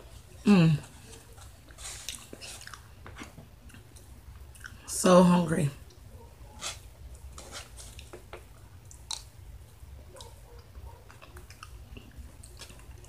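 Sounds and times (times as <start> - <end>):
person chewing: 0.1 - 4.9, 6.6 - 9.4, 10.1 - 13.0.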